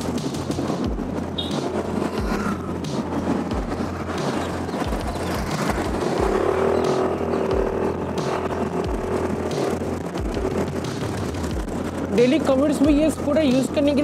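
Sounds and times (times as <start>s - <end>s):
scooter engine drone: 0.0s - 14.0s
wind buffeting microphone: 0.0s - 14.0s.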